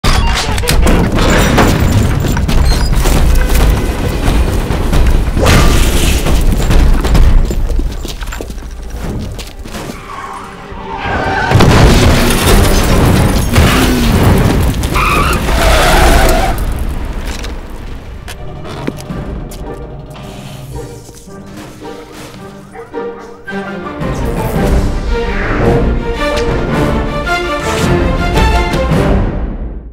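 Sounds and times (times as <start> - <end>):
dramatic music: 0.1 - 29.9.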